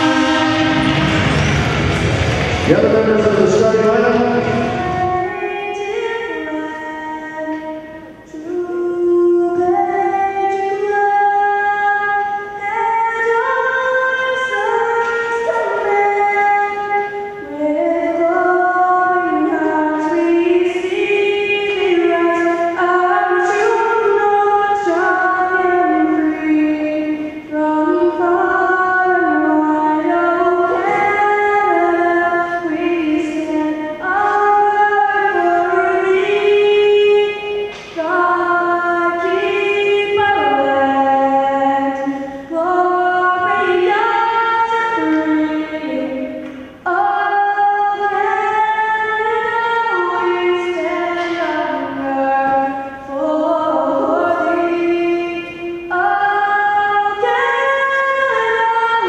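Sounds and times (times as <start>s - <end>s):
woman singing anthem solo: 0.0s - 1.8s, 3.5s - 59.0s.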